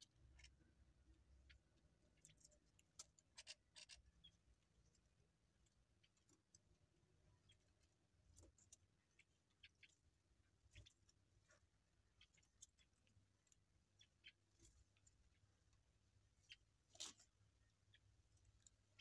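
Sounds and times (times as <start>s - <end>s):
birds pecking at feed: 0.0s - 19.0s.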